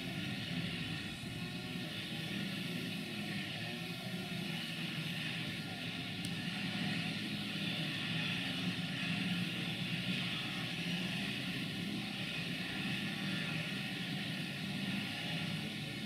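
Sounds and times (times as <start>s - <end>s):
distant vehicles droning: 0.0s - 16.0s.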